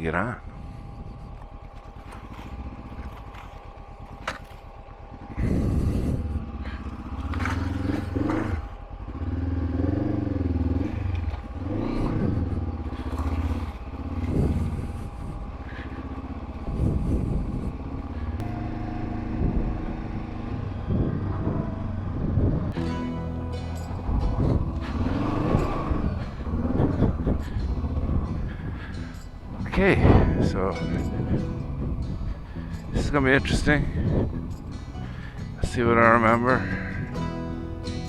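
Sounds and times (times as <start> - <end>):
motorcycle engine revving: 0.8 - 38.0.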